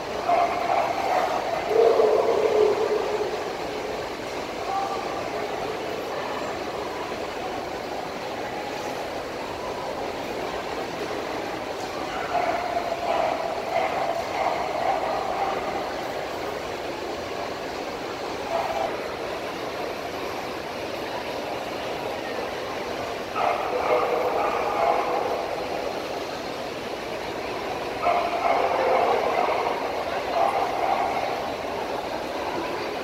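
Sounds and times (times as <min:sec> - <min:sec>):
busy show hall noise: 0:00.0 - 0:33.0
distant indistinct voices: 0:00.0 - 0:33.0.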